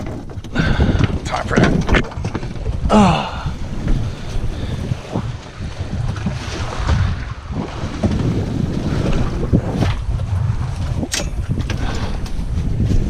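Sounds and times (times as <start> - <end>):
water sloshing against hull: 0.0 - 13.0
wind buffeting microphone: 0.0 - 13.0.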